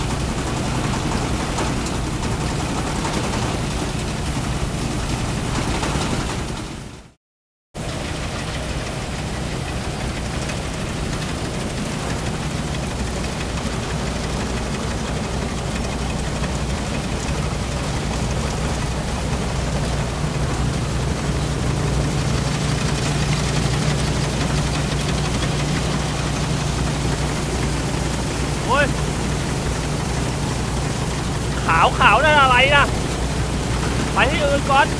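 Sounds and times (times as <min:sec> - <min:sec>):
combine harvester engine: 0:00.0 - 0:07.2, 0:07.8 - 0:34.9.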